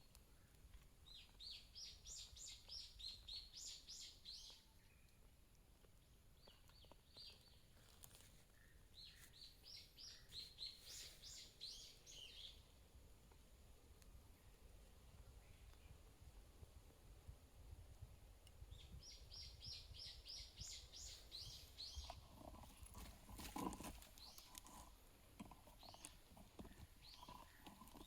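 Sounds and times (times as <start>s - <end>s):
songbird singing faintly: 0.0s - 28.0s.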